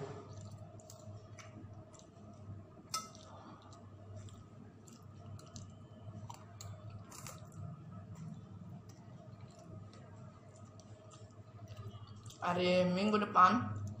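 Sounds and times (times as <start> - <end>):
quiet chewing: 0.3 - 12.4.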